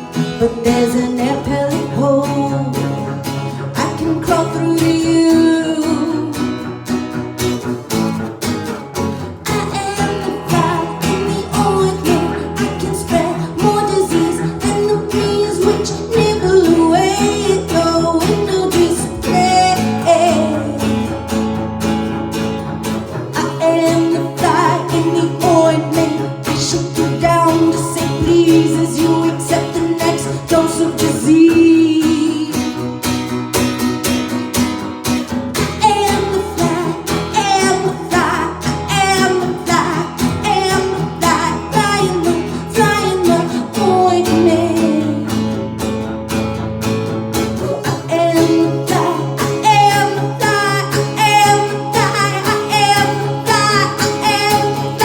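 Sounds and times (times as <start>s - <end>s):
person singing: 0.0s - 8.2s, 9.0s - 22.1s, 22.9s - 33.4s, 35.6s - 46.0s, 47.4s - 55.0s
guitar playing: 0.0s - 55.0s.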